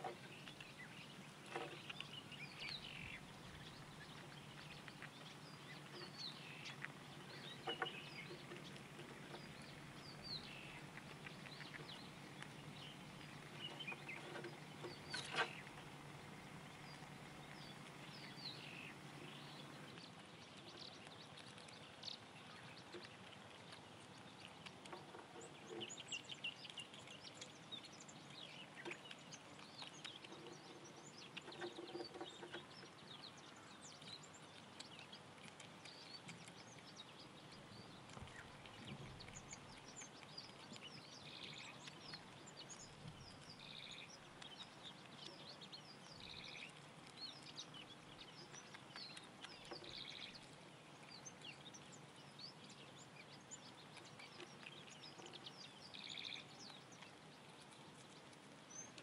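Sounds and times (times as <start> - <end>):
birds chirping and calling: 0.0 - 57.2
low steady hum: 0.0 - 59.0.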